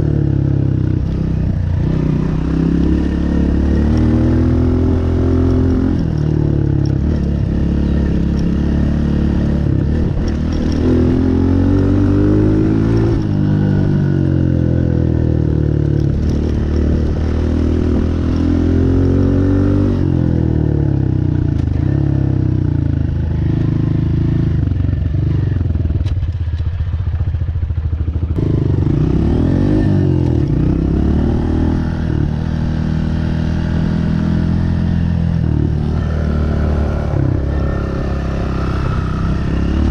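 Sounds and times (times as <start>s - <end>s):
dirt bike engine revving: 0.0s - 21.0s, 28.4s - 39.9s.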